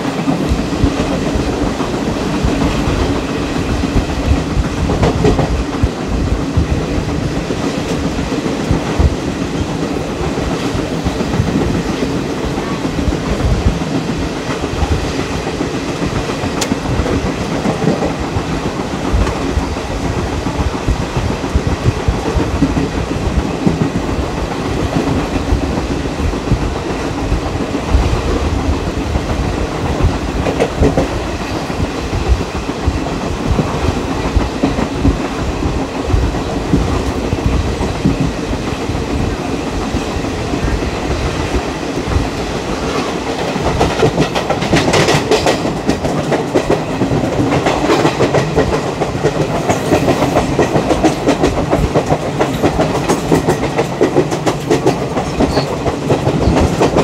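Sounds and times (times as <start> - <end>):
train wheels clattering over rail joints: 0.0 - 57.0.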